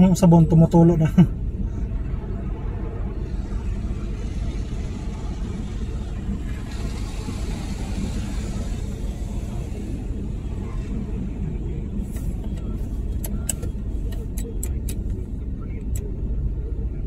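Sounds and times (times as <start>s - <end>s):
car wash machinery rumble: 0.0s - 17.0s.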